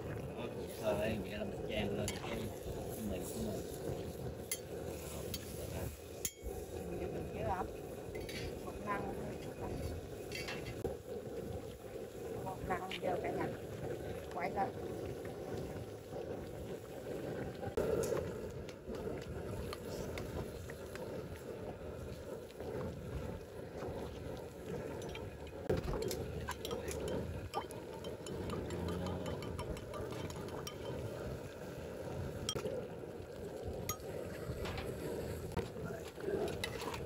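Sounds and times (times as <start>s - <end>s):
gas burner roaring: 0.0s - 37.0s.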